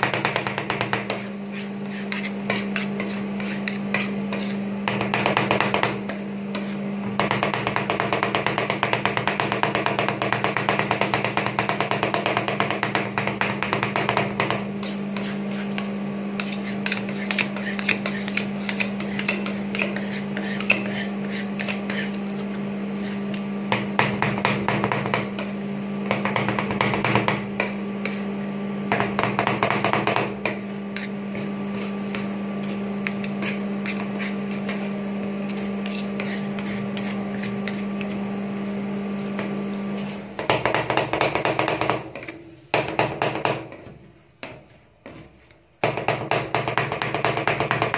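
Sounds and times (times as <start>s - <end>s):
spatula scraping: 0.0s - 8.8s, 13.8s - 42.9s, 43.6s - 46.1s
metal spatulas chopping on steel pan: 0.0s - 28.3s, 28.9s - 38.2s, 39.2s - 45.2s, 45.8s - 47.9s.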